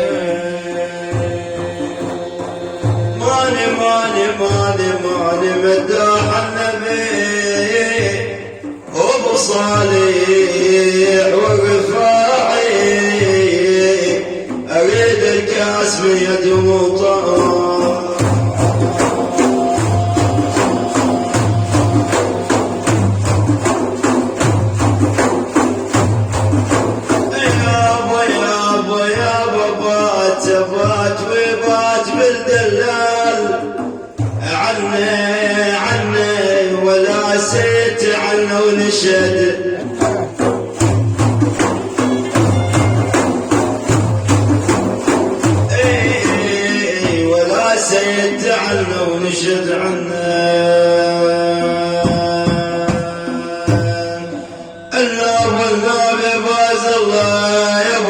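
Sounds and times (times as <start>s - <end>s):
frame drums beating fast rhythm: 0.0s - 49.2s, 51.6s - 58.0s.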